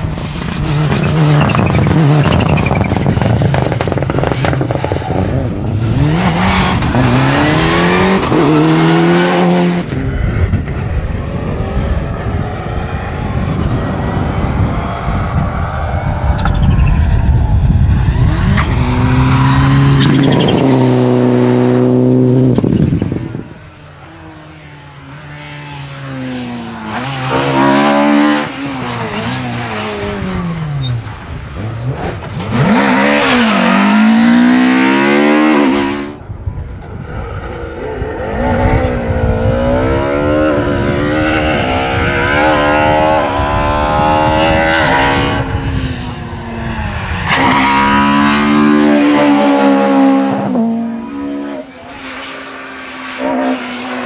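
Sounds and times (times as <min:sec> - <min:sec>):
rally car engine revving: 0:00.0 - 0:36.2, 0:37.2 - 0:54.0.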